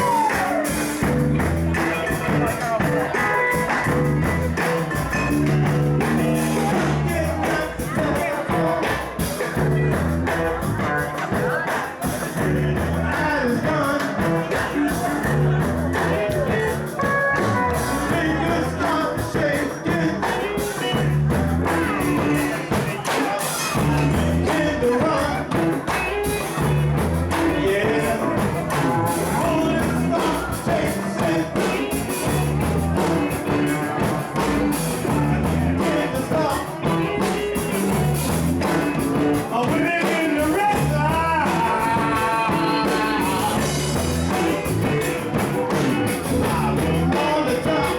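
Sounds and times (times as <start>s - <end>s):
live rock band playing: 0.0s - 47.9s
person singing: 0.0s - 47.9s.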